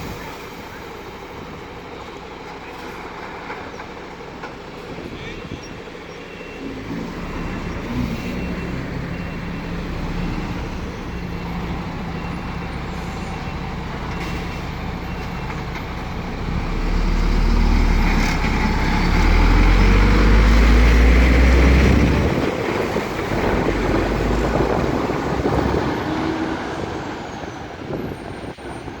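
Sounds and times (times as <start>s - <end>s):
fire truck diesel engine: 0.0s - 29.0s.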